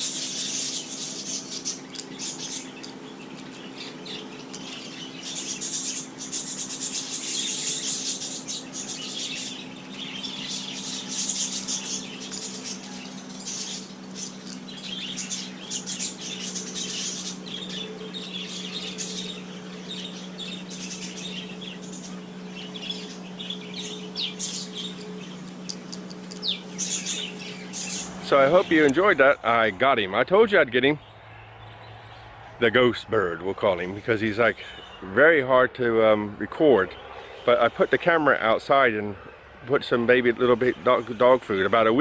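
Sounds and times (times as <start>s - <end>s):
small birds chirping: 0.0s - 42.0s
steady low hum: 0.0s - 42.0s.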